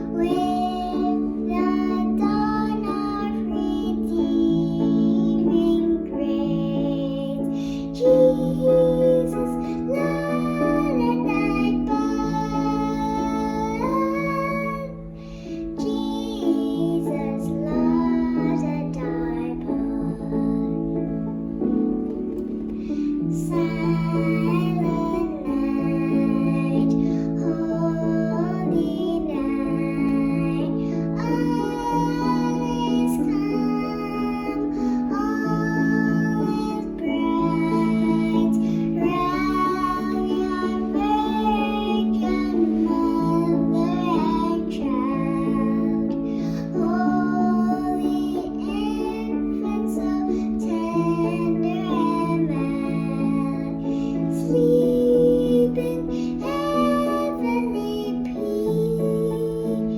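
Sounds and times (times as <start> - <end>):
held instrumental accompaniment: 7.1 - 58.9.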